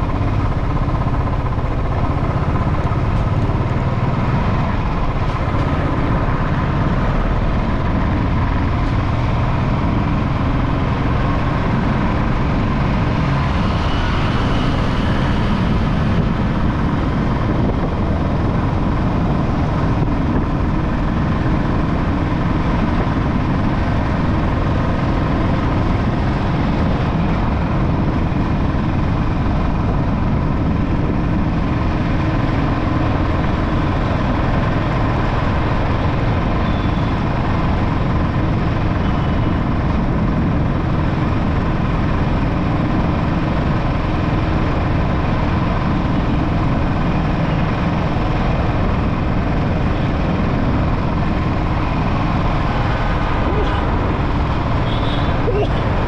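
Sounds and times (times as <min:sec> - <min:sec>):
motorcycle engine and road noise: 0:00.0 - 0:56.0.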